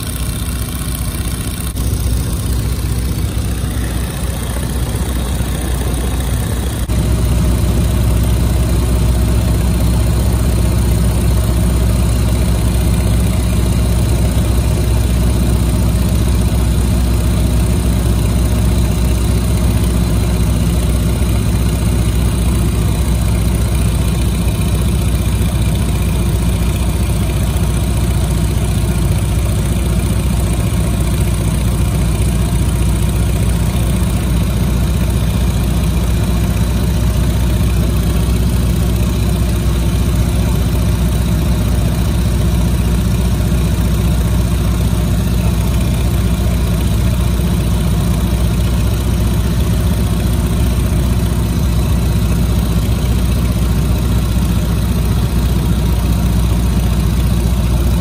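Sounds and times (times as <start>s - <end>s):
biplane engine droning: 0.0s - 52.1s.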